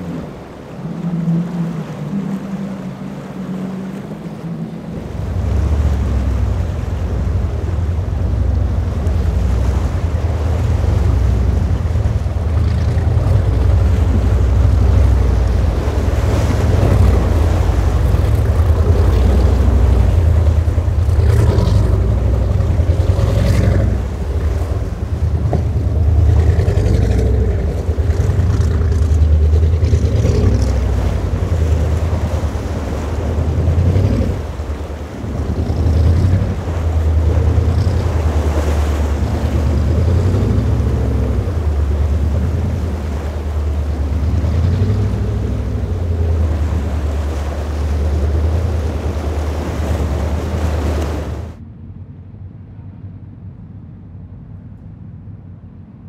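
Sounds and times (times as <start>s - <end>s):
powerboat engines running: 0.0s - 51.6s
waves and surf: 0.0s - 56.0s
wind rumbling on microphone: 0.0s - 56.0s.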